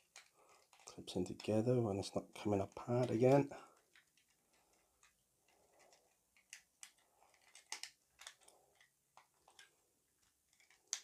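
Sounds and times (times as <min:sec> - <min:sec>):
plastic toy parts clicking: 0:00.0 - 0:01.7, 0:02.3 - 0:11.0.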